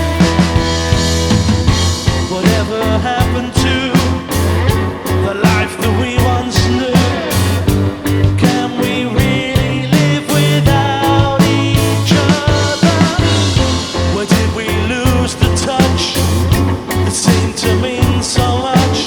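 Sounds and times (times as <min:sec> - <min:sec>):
drums keeping steady beat: 0:00.0 - 0:19.0
rock band playing live: 0:00.0 - 0:19.0.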